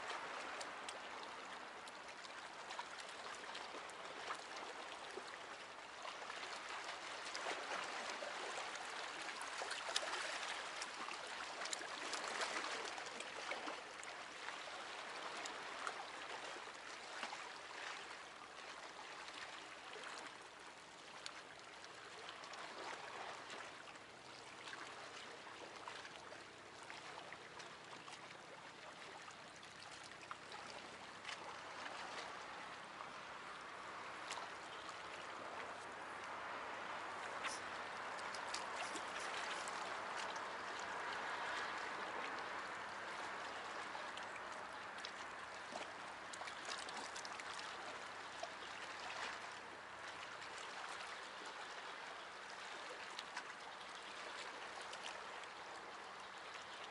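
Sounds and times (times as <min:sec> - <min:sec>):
sea waves lapping against rocks: 0:00.0 - 0:56.9.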